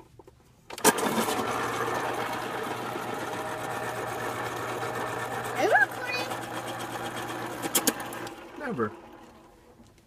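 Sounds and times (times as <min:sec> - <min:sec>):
electric pencil sharpener grinding: 0:00.8 - 0:09.7.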